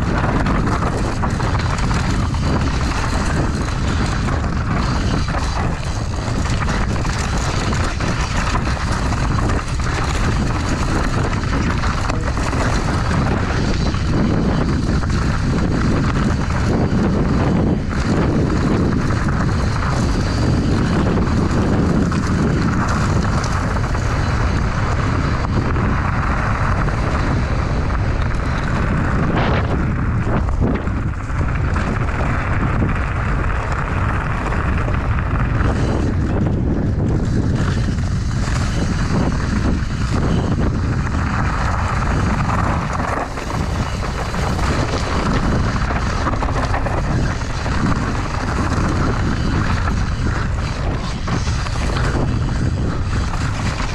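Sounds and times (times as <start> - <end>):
bike tyres rumbling on dirt trail: 0.0 - 53.9
wind buffeting microphone: 0.0 - 53.9.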